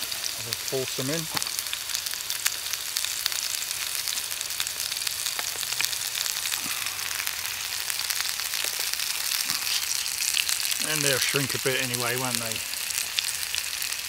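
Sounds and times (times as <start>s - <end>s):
burgers sizzling in a pan: 0.0s - 14.0s.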